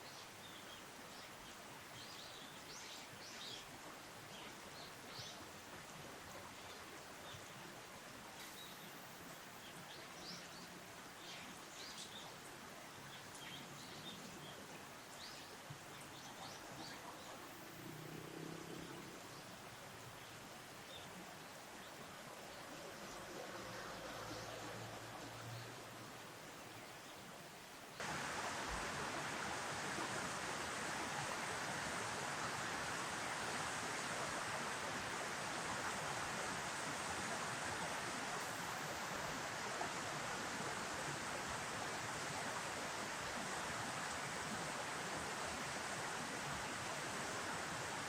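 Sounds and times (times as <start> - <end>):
river water rushing: 0.3 - 48.0.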